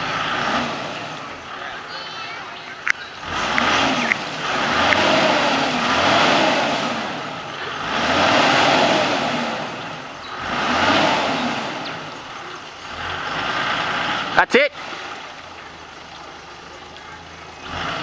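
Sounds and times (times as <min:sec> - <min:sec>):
engine revving: 0:00.0 - 0:18.0
vehicle pushing through water: 0:00.0 - 0:18.0.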